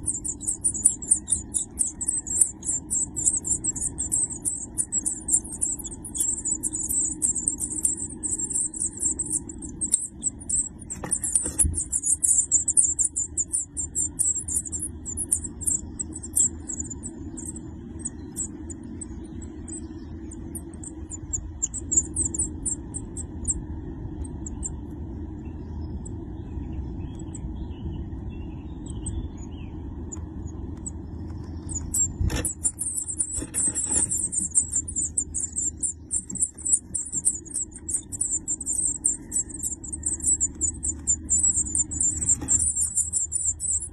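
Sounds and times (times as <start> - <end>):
nestlings chittering: 0.0 - 23.6, 24.2 - 24.8, 28.8 - 43.9
steady low hum: 0.0 - 43.9.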